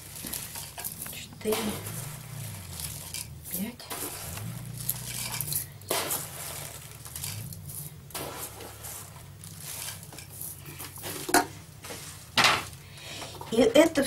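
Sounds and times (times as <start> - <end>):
dry flakes rustling: 0.0 - 14.0
low steady hum: 0.0 - 14.0.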